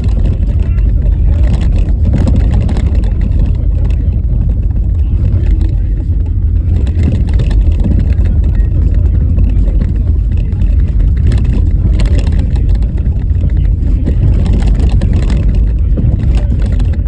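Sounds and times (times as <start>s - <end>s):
car tyres rumbling on rough snow: 0.0s - 17.0s.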